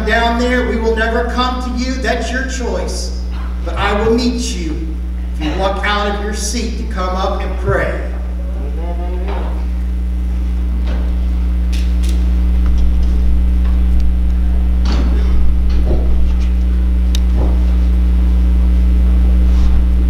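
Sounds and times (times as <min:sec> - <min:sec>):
sound system hum: 0:00.0 - 0:20.0.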